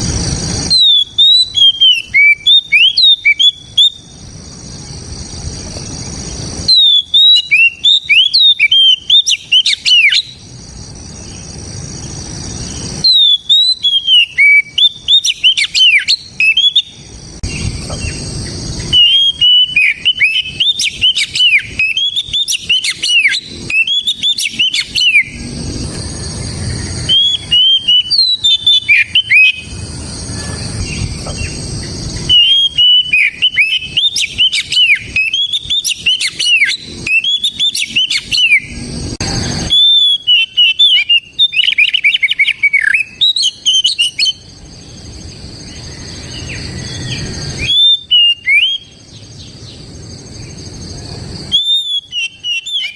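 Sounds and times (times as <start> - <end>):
bird singing whistled notes: 0.4 - 52.9.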